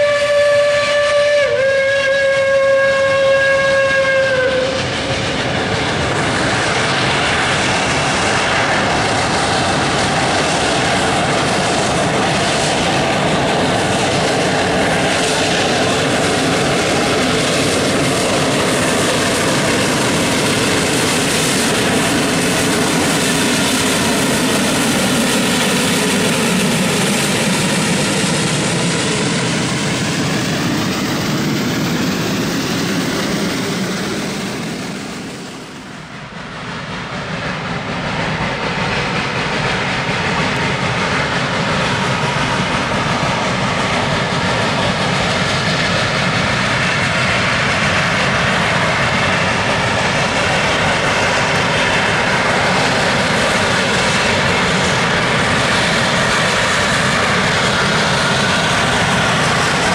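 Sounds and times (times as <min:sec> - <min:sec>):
steam locomotive rumble: 0:00.0 - 0:59.9.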